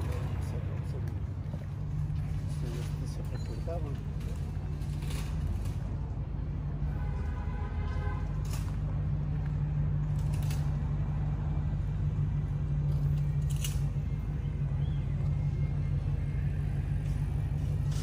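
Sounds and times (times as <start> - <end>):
traffic engine hum: 0.0 - 18.0.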